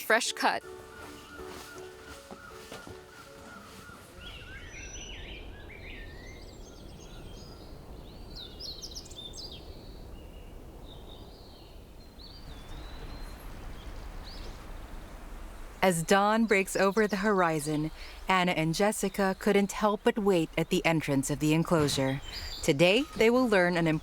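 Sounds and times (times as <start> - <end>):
outdoor background noise: 0.0 - 24.0
small birds chirping: 0.6 - 24.0.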